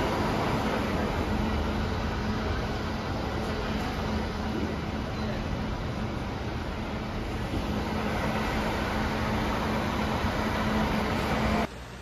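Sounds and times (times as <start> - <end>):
buses idling: 0.0 - 12.0.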